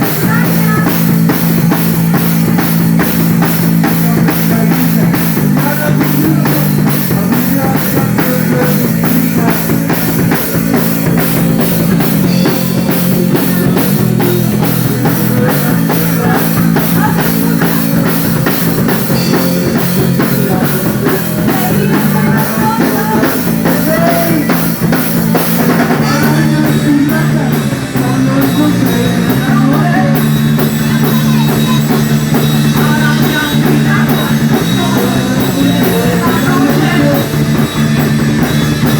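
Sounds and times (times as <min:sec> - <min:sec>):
drum kit beat: 0:00.0 - 0:38.9
electric guitar: 0:00.0 - 0:38.9
rock and roll band playing: 0:00.0 - 0:38.9.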